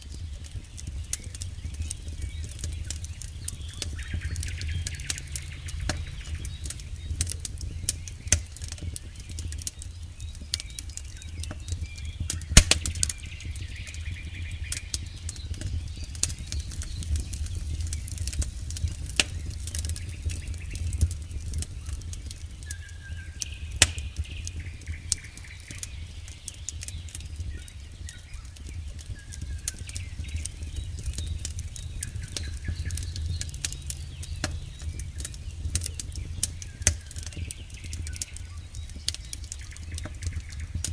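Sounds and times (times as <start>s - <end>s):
campfire crackling: 0.0s - 40.9s
loud pops from fire: 0.0s - 40.9s.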